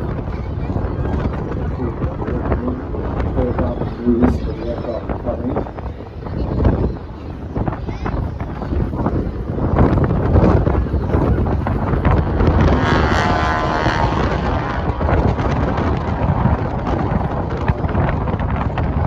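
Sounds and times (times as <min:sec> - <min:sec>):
aircraft engine drone: 0:00.0 - 0:07.6, 0:09.0 - 0:19.0
wind buffeting microphone: 0:00.0 - 0:19.0.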